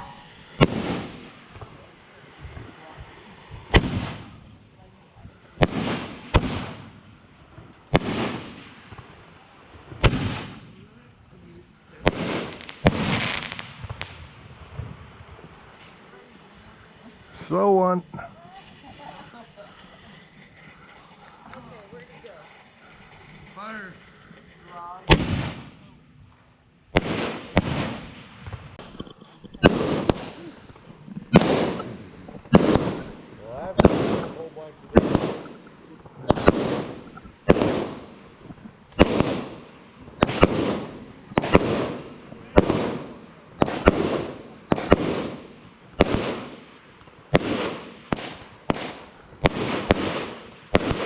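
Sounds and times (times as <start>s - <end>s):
fireworks bangs: 0.0s - 51.0s
fireworks crackling hiss: 0.0s - 51.0s.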